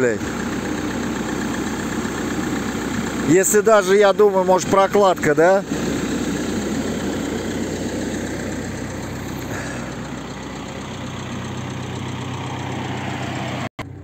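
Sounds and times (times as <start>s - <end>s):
diesel van engine idling: 0.0s - 14.0s.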